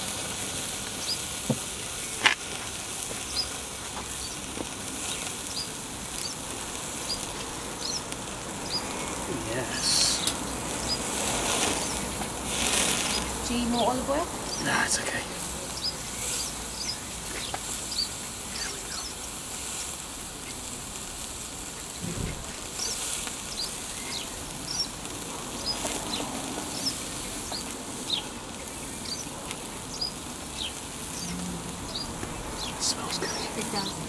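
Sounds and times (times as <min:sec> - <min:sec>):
small birds chirping: 0:00.0 - 0:34.0
steak sizzling on a grate: 0:00.0 - 0:34.0.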